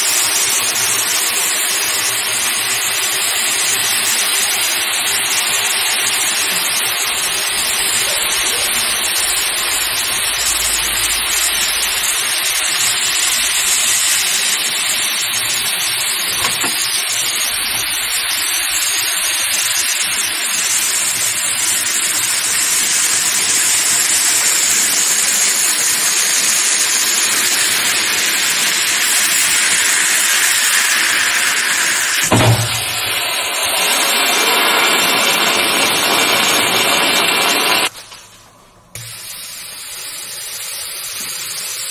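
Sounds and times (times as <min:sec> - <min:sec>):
hot metal sizzling on ice: 0:00.0 - 0:38.0, 0:39.0 - 0:41.9.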